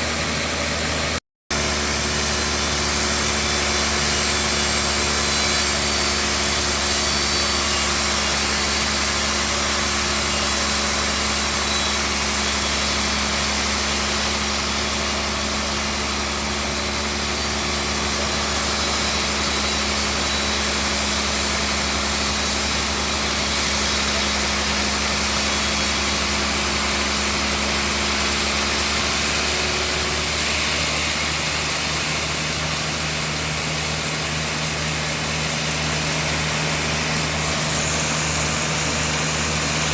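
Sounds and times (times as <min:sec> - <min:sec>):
bandsaw machinery droning: 0:00.0 - 0:39.9.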